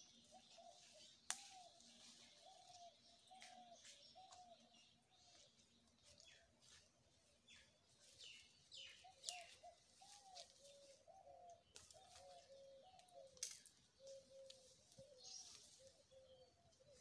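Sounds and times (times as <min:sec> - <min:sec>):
low cooing bird notes: 0:00.0 - 0:05.5, 0:08.2 - 0:17.0
small birds chirping: 0:00.0 - 0:17.0.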